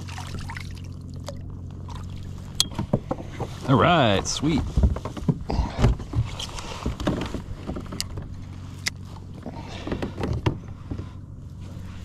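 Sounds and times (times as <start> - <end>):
steady low hum: 0.0 - 12.0
gear clicks and knocks: 1.2 - 11.7.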